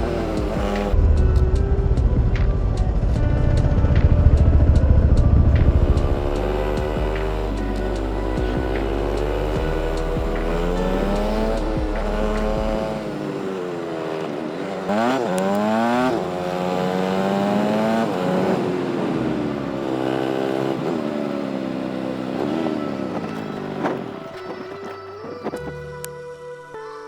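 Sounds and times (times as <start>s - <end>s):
motorcycle engine revving: 0.0s - 25.8s.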